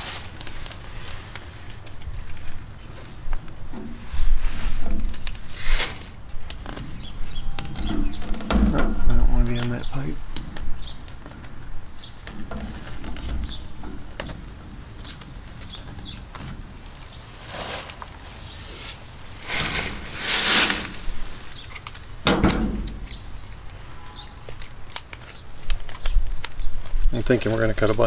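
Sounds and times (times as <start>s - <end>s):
tape peeled off roll: 0.0s - 23.5s.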